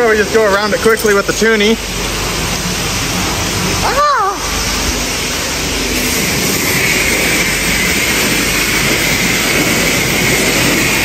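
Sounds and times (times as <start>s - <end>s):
pressure washer spray hiss: 0.1s - 11.0s.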